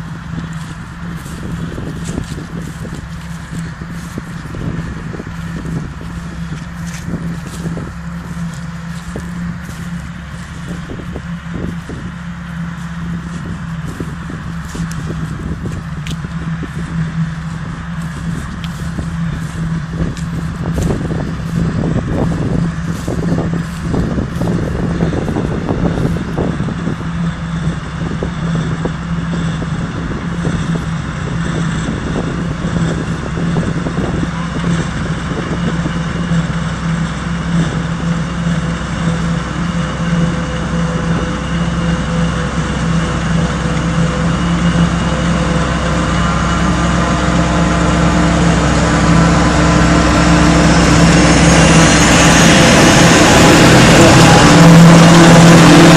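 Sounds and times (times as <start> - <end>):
forage harvester engine and chopper: 0.0 - 55.9
tractor engine running: 0.0 - 55.9.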